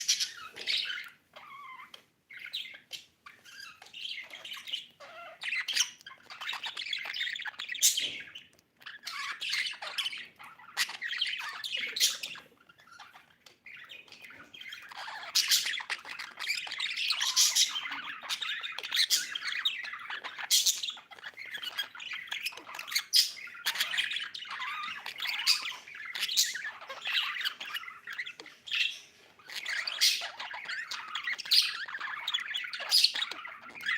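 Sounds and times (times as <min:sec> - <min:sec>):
budgerigar chirping: 0:00.0 - 0:33.9.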